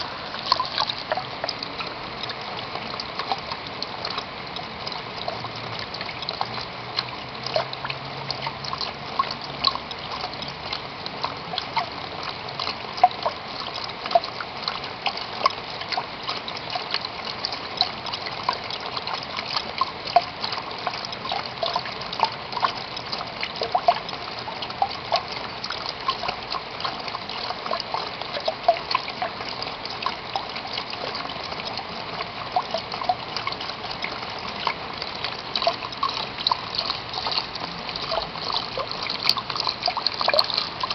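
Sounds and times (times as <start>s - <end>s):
rain dripping and splashing: 0.0s - 40.9s.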